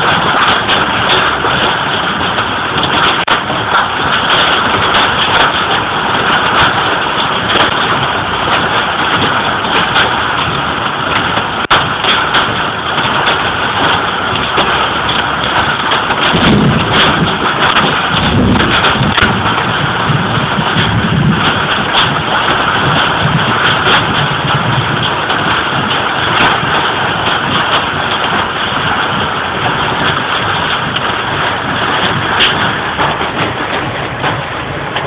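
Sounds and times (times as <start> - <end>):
clicks of drops or hailstones: 0.0 - 35.0
heavy rain on car roof: 0.0 - 35.0.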